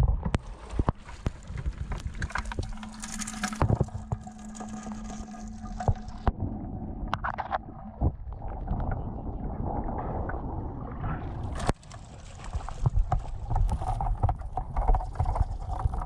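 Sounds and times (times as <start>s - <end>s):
water noise: 0.0s - 16.0s.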